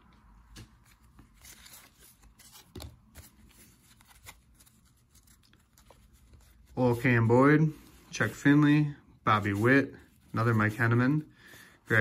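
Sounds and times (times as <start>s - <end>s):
cards rustling in hands: 0.5s - 12.0s.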